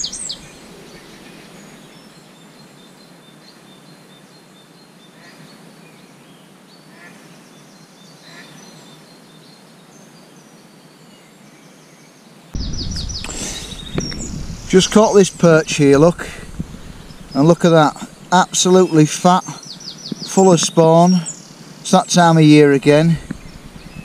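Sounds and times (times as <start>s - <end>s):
background hiss: 0.0s - 24.0s
small birds chirping: 0.0s - 24.0s.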